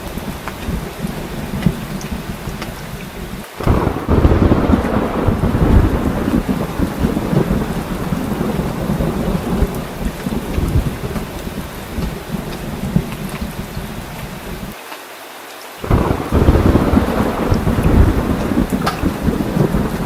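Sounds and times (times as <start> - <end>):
deep rolling thunder: 0.0 - 14.7, 15.8 - 20.0
heavy rain falling: 0.0 - 20.0.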